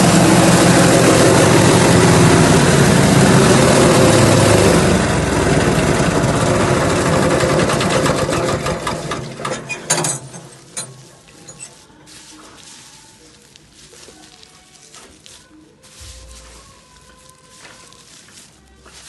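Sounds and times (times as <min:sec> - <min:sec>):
forage chopper running: 0:00.0 - 0:19.0.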